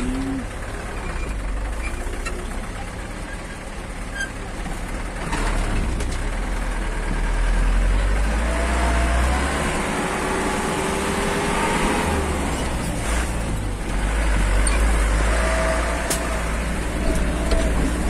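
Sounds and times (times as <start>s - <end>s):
road noise: 0.0s - 18.0s
vehicle engine rumble: 0.0s - 18.0s.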